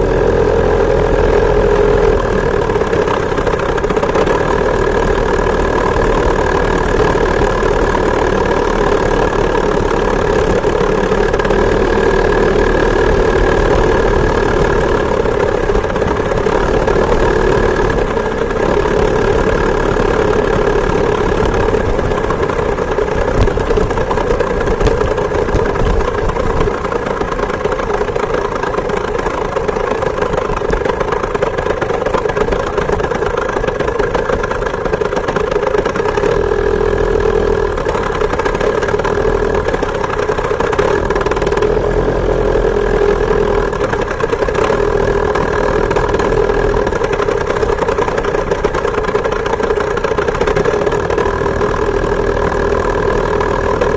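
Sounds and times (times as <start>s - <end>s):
two-stroke engine running: 0.0s - 53.9s.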